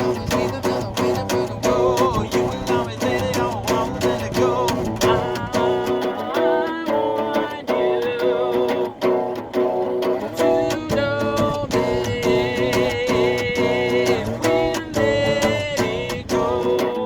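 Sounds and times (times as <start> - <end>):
song with strummed guitar: 0.0 - 17.0.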